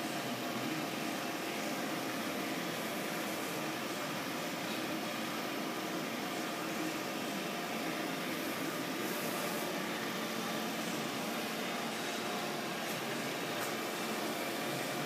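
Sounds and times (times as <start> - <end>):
milling machine hum: 0.0 - 15.0.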